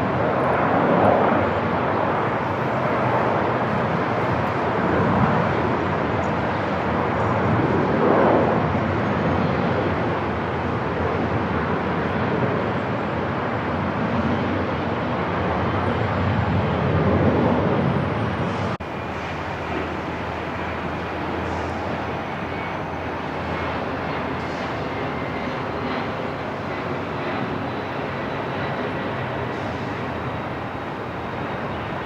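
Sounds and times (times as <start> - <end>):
aircraft engines rumbling: 0.0 - 32.0.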